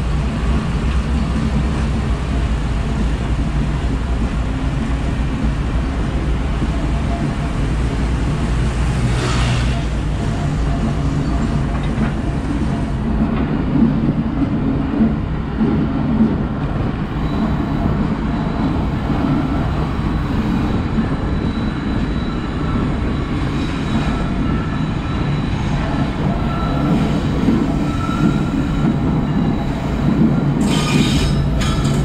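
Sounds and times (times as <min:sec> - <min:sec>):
diesel locomotive engine rumble: 0:00.0 - 0:32.0.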